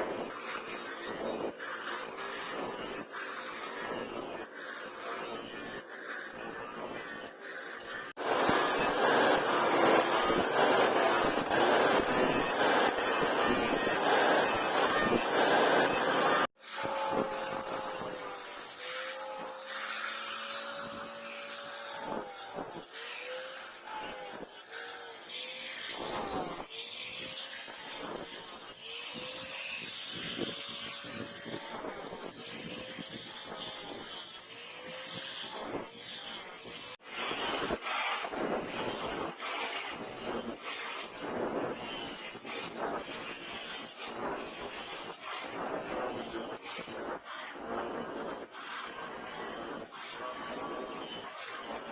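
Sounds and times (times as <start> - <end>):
power tool grinding steel: 0.0 - 51.9.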